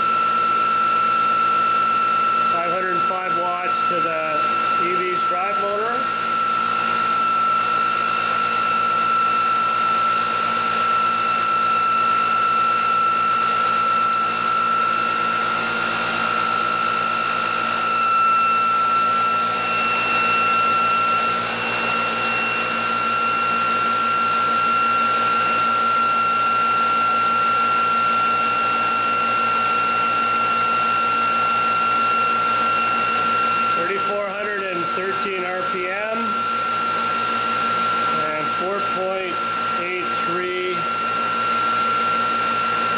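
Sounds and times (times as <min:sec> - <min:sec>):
electric motor high-pitched whine: 0:00.0 - 0:42.9.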